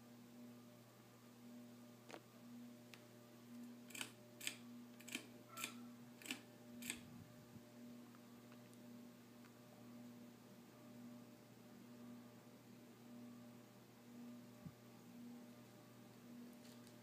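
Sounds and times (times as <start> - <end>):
ceiling fan motor humming: 0.0 - 17.0.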